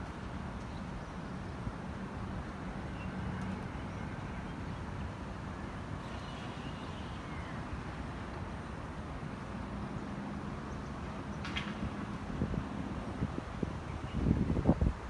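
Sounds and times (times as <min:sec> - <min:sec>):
distant city traffic: 0:00.0 - 0:15.0
wind: 0:00.0 - 0:15.0.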